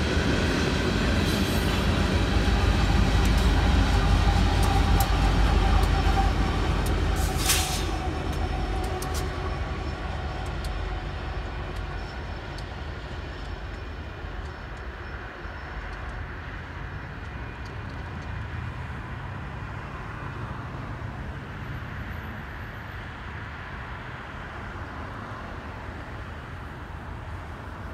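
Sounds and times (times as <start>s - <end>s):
diesel locomotives rumbling: 0.0s - 27.9s.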